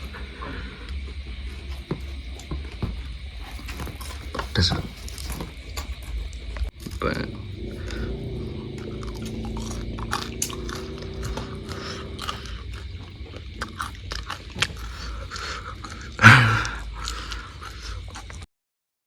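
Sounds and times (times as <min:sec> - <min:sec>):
crunching and chewing: 0:00.0 - 0:18.5.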